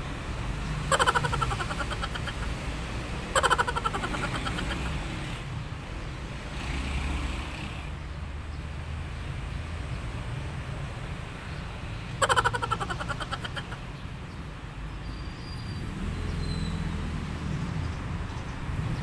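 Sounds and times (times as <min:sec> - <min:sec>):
vehicle passing: 0:00.0 - 0:14.8, 0:15.8 - 0:19.0
road traffic rumble: 0:00.0 - 0:19.0.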